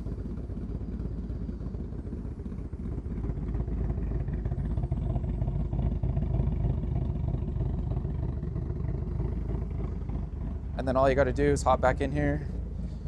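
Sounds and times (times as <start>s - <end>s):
car exhaust idling choppily: 0.0s - 13.0s.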